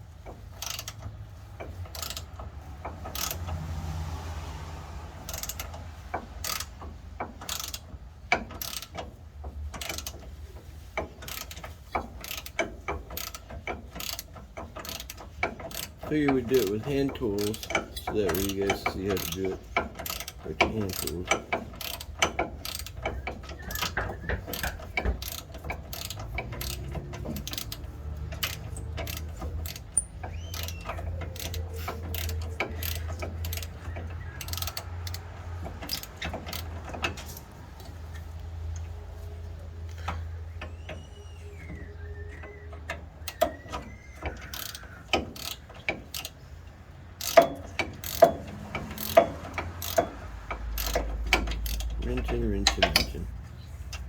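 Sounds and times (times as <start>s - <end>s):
ratchet wrench clicking: 0.1s - 54.0s.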